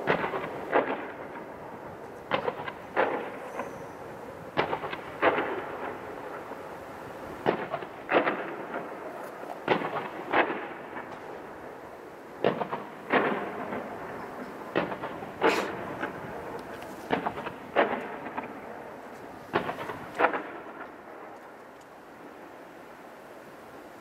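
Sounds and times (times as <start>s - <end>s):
fireworks booming: 0.0s - 22.6s.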